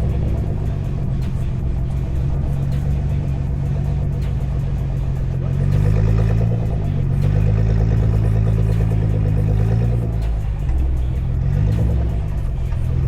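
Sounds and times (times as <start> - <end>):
car engine under load: 0.0 - 13.0.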